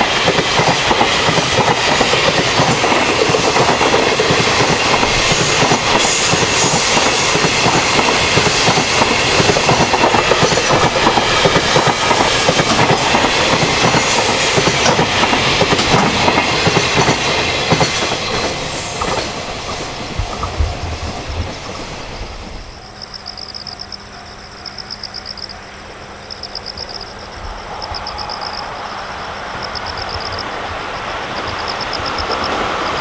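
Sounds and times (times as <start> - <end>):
freight train wheels on rails: 0.0 - 33.0.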